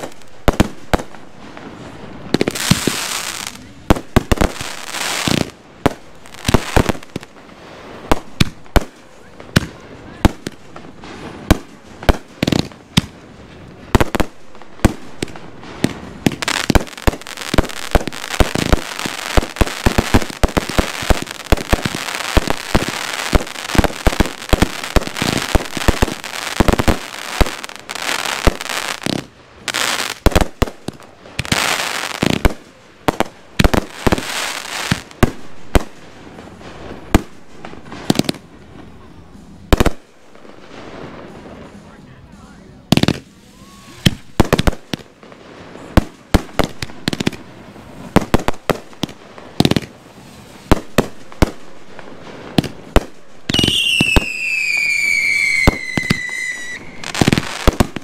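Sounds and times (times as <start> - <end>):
fireworks shots and bangs: 0.0 - 41.9, 42.8 - 58.0
fireworks crackling: 0.0 - 58.0.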